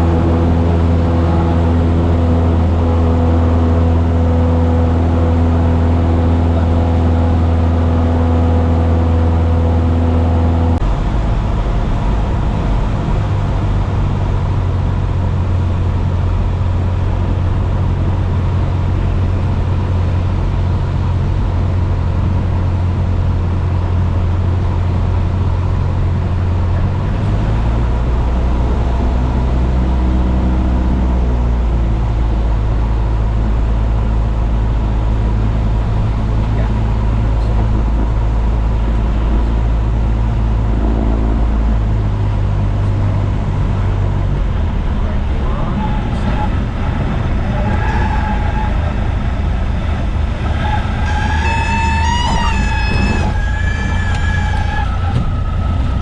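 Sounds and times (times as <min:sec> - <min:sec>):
light airplane engine and propeller: 0:00.0 - 0:56.0.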